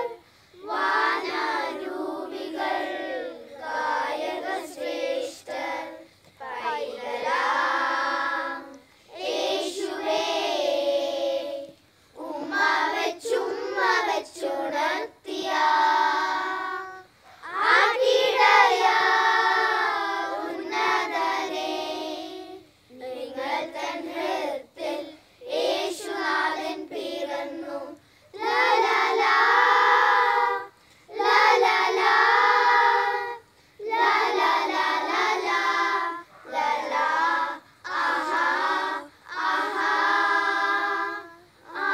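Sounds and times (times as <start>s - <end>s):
children's choir singing: 0.0s - 41.9s.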